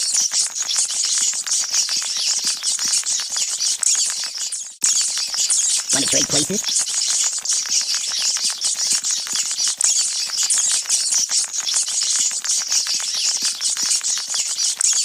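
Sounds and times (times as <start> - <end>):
rats squeaking and chittering: 0.1 - 15.0.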